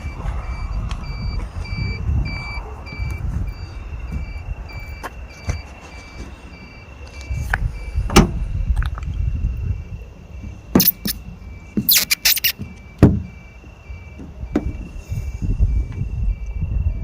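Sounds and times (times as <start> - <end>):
faint electronic beeping: 0.0 - 8.8, 9.5 - 17.0
road traffic rumble: 0.0 - 17.0.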